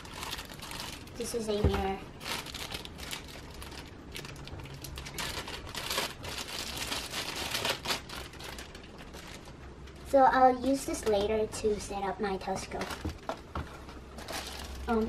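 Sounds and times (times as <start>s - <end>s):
plastic bag crinkling: 0.0s - 10.1s, 12.6s - 15.0s.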